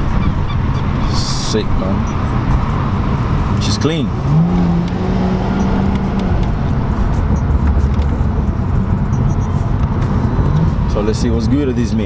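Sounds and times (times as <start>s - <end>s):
car engine running: 0.0s - 12.0s
road rumble: 0.0s - 12.0s.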